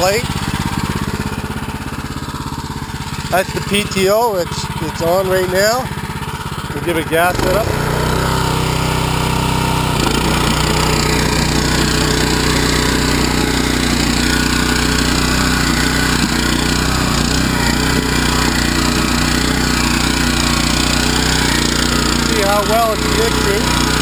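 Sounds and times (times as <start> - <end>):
rotary tiller churning soil: 0.0 - 24.0
small petrol engine running: 0.0 - 24.0.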